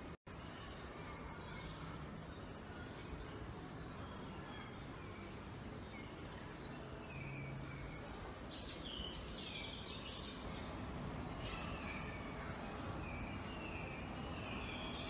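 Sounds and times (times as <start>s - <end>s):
birds chirping: 0.0s - 15.0s
faint background hum: 0.0s - 15.0s.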